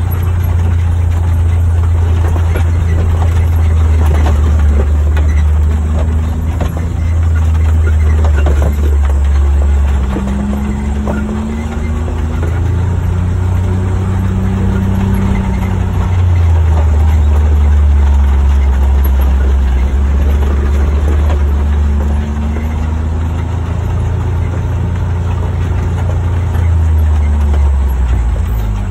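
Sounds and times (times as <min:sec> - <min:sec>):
utility vehicle engine droning: 0:00.0 - 0:28.9.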